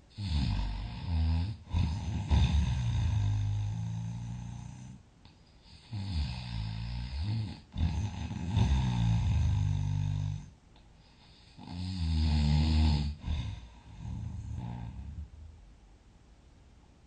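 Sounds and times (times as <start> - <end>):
person snoring heavily: 0.1 - 5.0, 5.7 - 10.5, 11.2 - 15.3.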